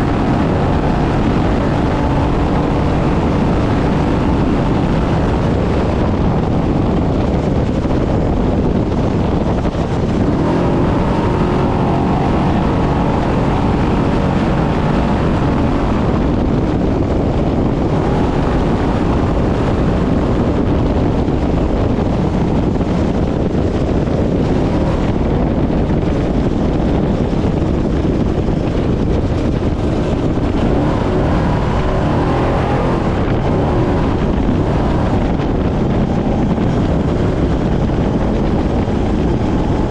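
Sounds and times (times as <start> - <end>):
truck engine running hard: 0.0 - 39.9
wind noise on microphone: 0.0 - 39.9.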